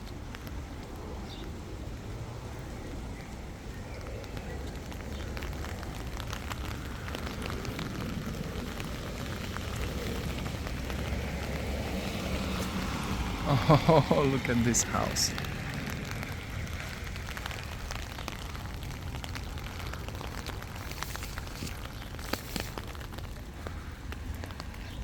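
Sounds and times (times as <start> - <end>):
footstep crackles and clicks: 0.0 - 13.1, 14.9 - 25.0.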